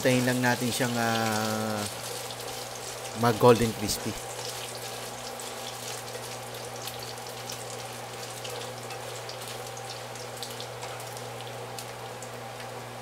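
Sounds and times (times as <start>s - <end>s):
bacon sizzling in a pan: 0.0s - 13.0s.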